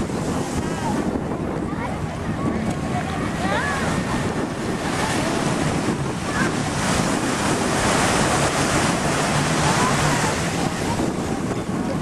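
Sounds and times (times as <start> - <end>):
small waves breaking: 0.0 - 12.0
wind buffeting microphone: 0.0 - 12.0.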